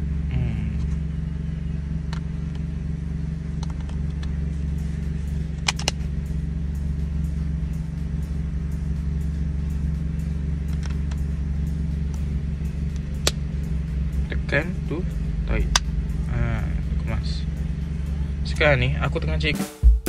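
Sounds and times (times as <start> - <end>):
car engine idling: 0.0 - 19.6.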